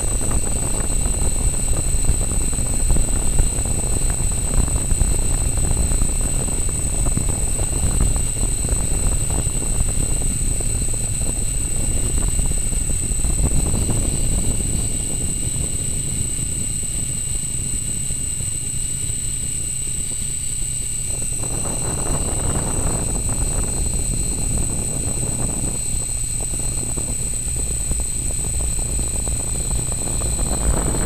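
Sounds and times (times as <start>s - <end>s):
drone motors whining: 0.0s - 31.0s
wind buffeting microphone: 0.0s - 31.0s.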